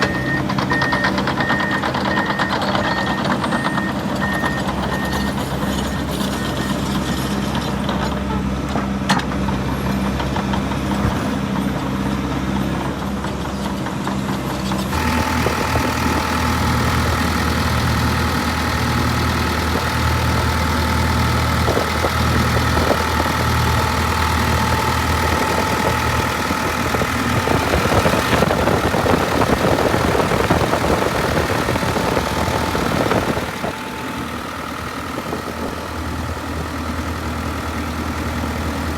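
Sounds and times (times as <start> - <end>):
diesel engine running: 0.0 - 38.9
steady engine whine: 0.0 - 38.9.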